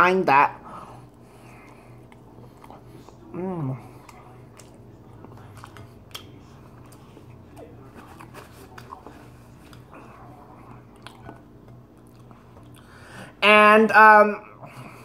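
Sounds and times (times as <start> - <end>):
faint low hum: 0.0 - 15.0
person chewing: 0.9 - 13.2.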